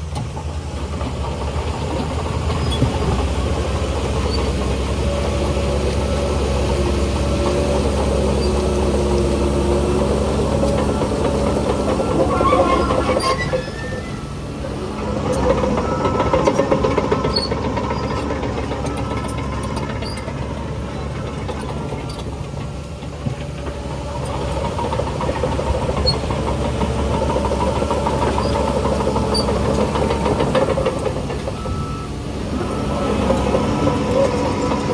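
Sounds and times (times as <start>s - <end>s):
diesel earthmoving machinery running: 0.0s - 34.9s.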